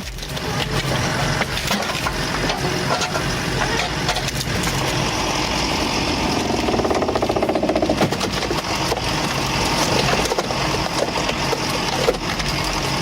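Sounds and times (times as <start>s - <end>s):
log splitter engine running: 0.0s - 13.0s.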